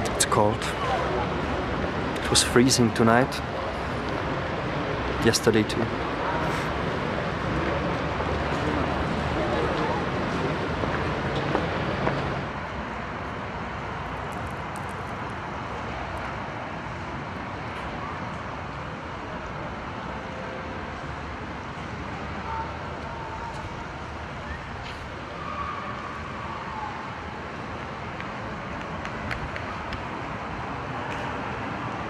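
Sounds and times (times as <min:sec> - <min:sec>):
distant city traffic: 0:00.0 - 0:32.0.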